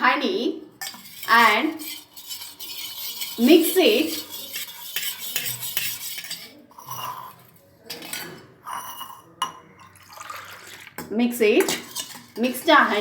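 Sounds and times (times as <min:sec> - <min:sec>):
teaspoon clinking while stirring: 0:00.8 - 0:10.3, 0:11.6 - 0:12.6.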